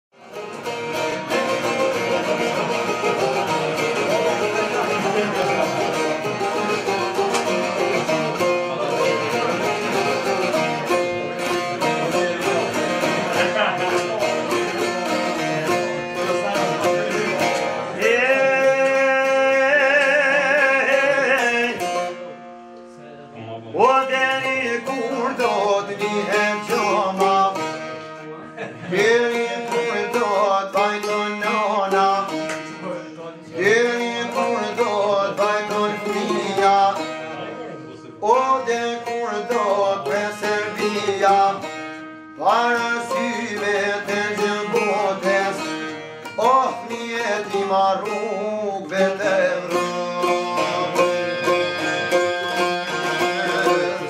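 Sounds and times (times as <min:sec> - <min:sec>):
man singing folk song: 0:00.2 - 0:22.5, 0:23.3 - 0:54.0
plucked lutes: 0:00.2 - 0:54.0.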